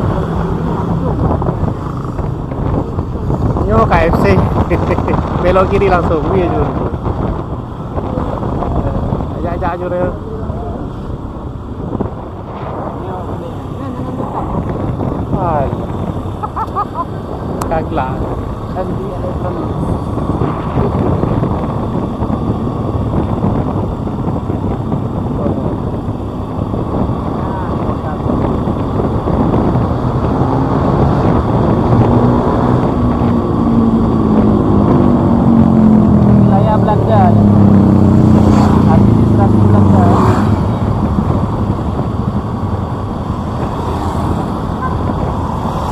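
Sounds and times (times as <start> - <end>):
motorbike running: 0.0 - 45.9
wind rumble on microphone: 0.0 - 45.9.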